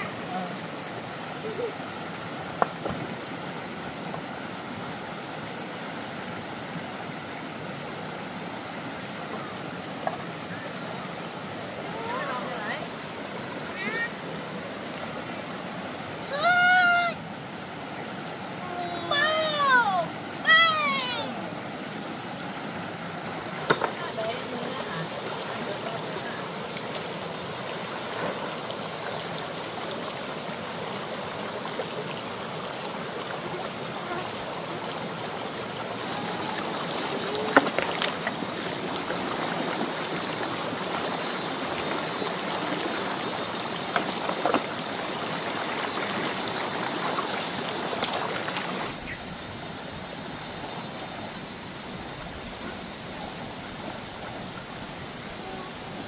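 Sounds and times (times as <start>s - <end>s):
water flowing: 0.0s - 56.0s.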